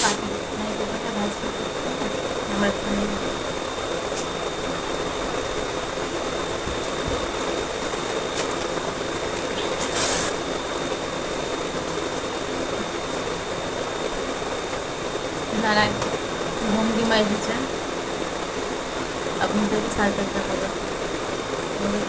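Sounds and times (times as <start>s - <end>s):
electric fan whirring: 0.0s - 22.0s.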